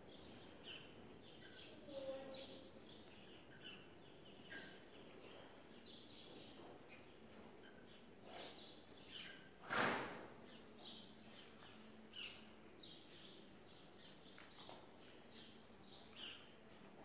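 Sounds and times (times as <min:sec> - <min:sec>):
small birds chirping: 0:00.0 - 0:09.6, 0:10.3 - 0:17.0.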